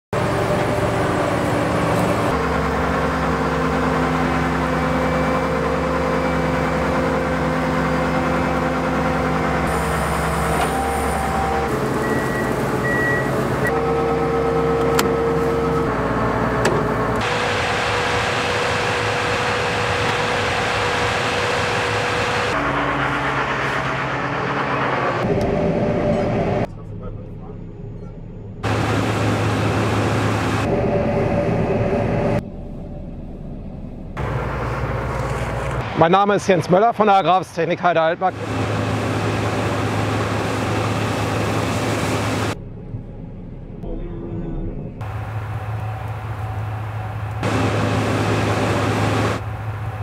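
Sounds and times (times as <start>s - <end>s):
combine harvester engine and machinery hum: 0.2s - 50.0s.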